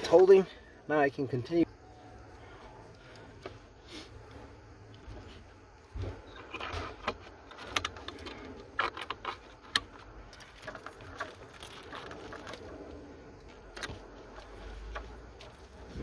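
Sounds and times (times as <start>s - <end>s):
rustling of wires: 1.7s - 16.0s.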